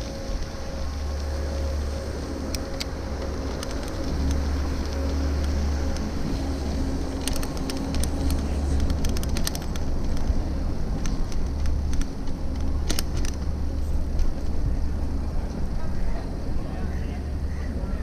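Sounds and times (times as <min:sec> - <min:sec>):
bicycle clicks and rattles: 0:00.0 - 0:16.2
rolling road noise: 0:00.0 - 0:18.0.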